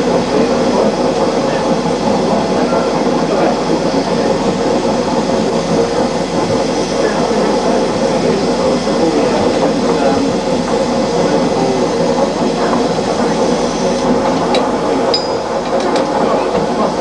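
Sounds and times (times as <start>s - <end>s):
railway rumbling clatter: 0.0s - 17.0s.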